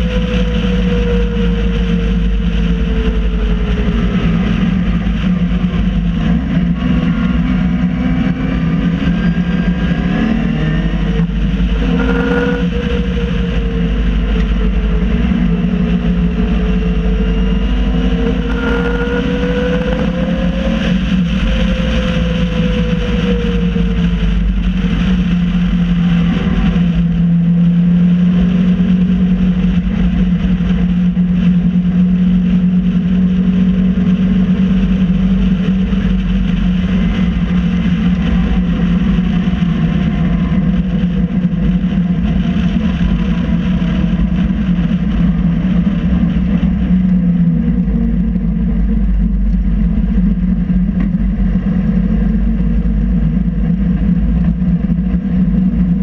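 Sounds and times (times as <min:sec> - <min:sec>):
race car engine running: 0:00.0 - 0:56.0
tyres on wet road: 0:00.0 - 0:56.0
wind noise: 0:00.0 - 0:56.0.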